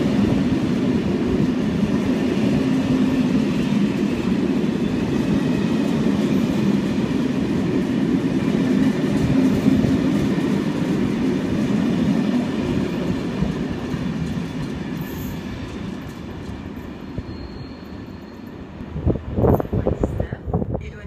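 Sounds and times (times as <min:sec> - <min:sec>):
train coaches rumbling on rails: 0:00.0 - 0:21.0.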